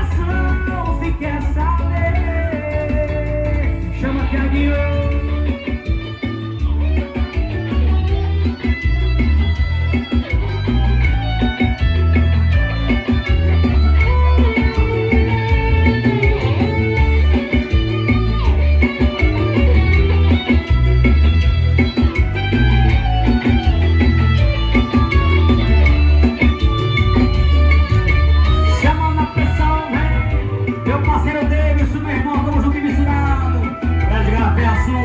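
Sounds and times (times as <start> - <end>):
bass guitar: 0.0 - 35.0
electric guitar: 0.0 - 35.0
steady drum beat: 0.0 - 35.0.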